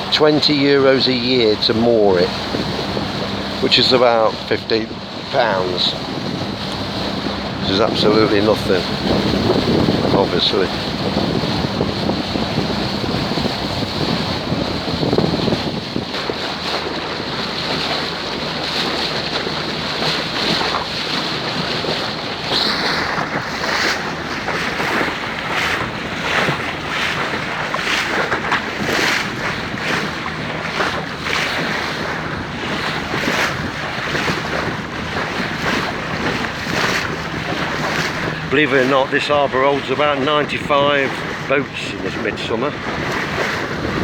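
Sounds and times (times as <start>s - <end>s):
boat engine running: 0.0s - 44.0s
water splashing along hull: 0.0s - 44.0s
wind buffeting microphone: 0.0s - 44.0s.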